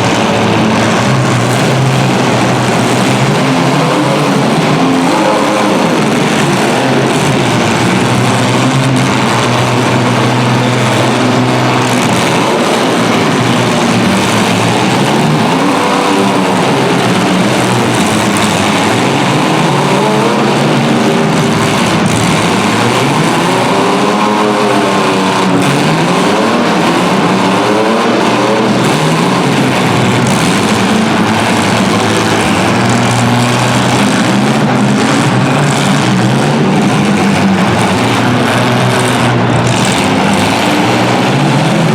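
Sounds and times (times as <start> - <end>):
car engines revving hard: 0.0 - 41.9
constant engine noise: 0.0 - 41.9.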